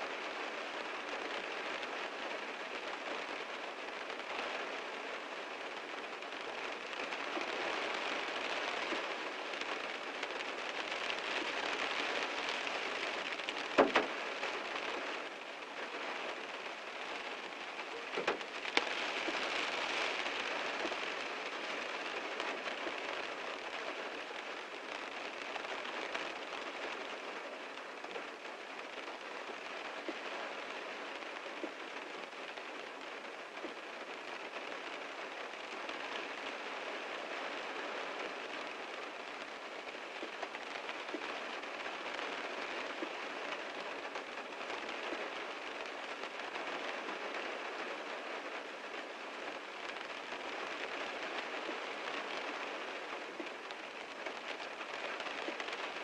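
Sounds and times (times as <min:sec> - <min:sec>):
heavy rain on a car: 0:00.0 - 0:56.0.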